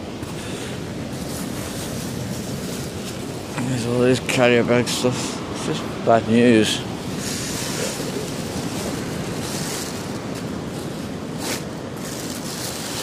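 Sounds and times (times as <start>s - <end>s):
sea surf washing onto beach: 0.0s - 13.0s
wind blowing on microphone: 0.2s - 13.0s.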